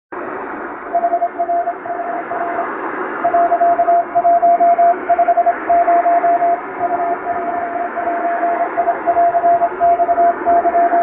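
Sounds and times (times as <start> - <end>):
shortwave radio hiss: 0.2 - 11.0
morse code beeping tone: 0.9 - 11.0.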